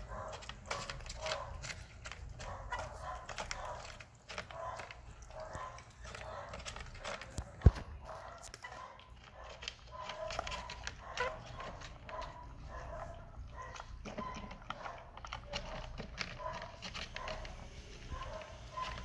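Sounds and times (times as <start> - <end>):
cats crunching dry kibble: 0.0 - 19.0.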